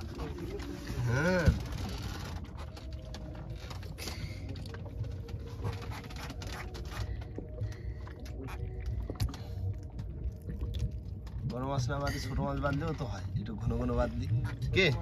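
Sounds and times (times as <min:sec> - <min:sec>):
clicks and knocks of fish unhooking: 0:00.0 - 0:13.5
steady low rumble: 0:00.0 - 0:15.0.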